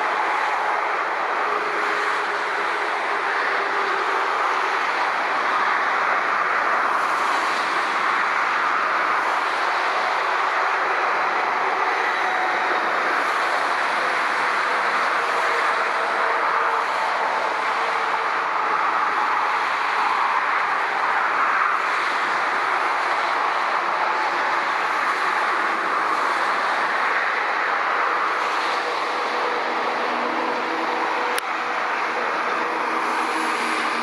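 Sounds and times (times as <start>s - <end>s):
jet engines roaring: 0.0s - 34.0s
motorway traffic rush: 0.0s - 34.0s.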